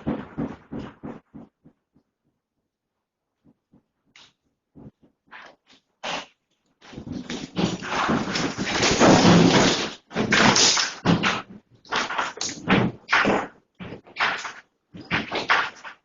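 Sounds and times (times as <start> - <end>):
objects banging and rattling: 0.0 - 2.4, 3.4 - 16.0.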